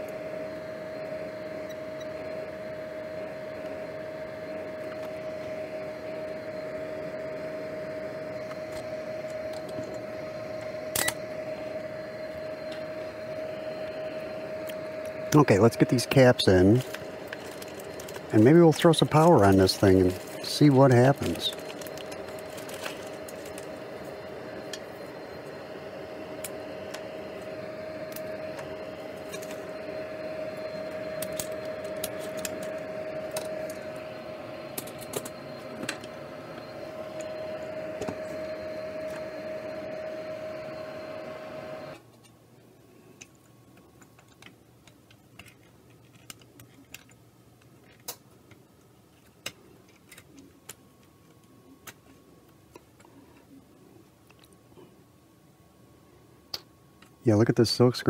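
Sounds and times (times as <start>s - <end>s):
fan machine whirring and humming: 0.0s - 58.0s.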